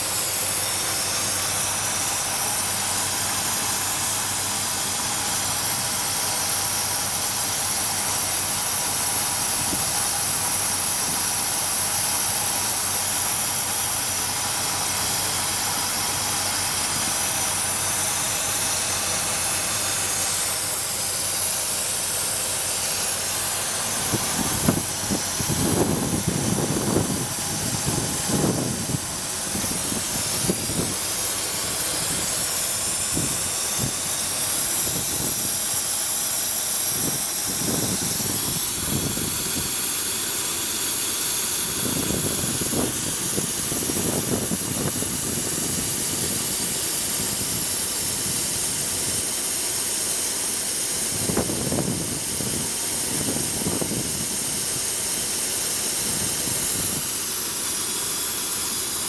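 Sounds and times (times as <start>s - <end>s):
car engine idling: 0.0s - 59.0s
strong steady hiss: 0.0s - 59.0s.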